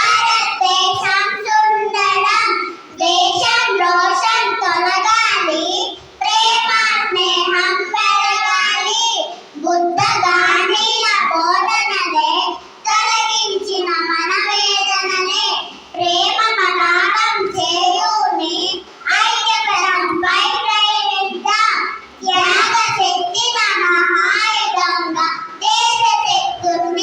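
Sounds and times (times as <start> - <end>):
child singing in a high voice: 0.0 - 27.0.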